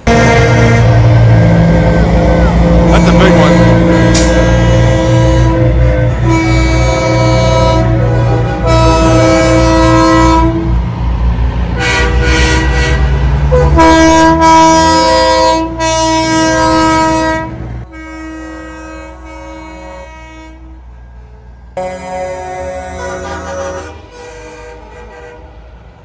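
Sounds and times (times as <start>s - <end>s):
truck air horn blasts: 0.0s - 10.8s, 11.7s - 20.8s, 21.8s - 25.6s
diesel engines rumbling: 0.0s - 26.0s.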